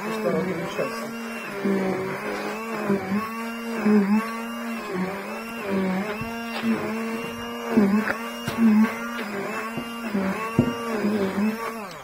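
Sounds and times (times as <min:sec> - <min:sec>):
immersion blender running: 0:00.0 - 0:12.0.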